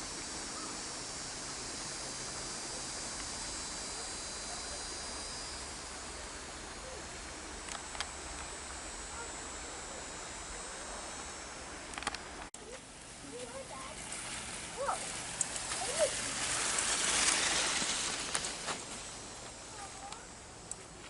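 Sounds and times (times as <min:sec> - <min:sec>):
insects buzzing: 0:00.0 - 0:21.0
outdoor ambience hiss: 0:00.0 - 0:21.0.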